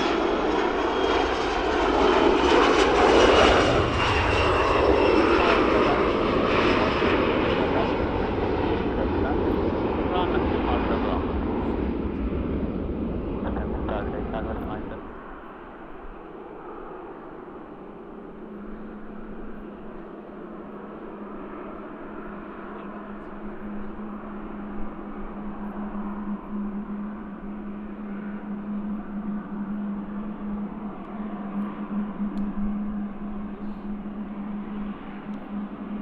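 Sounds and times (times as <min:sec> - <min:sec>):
engine hum: 0:00.0 - 0:36.0
low steady drone: 0:00.0 - 0:36.0.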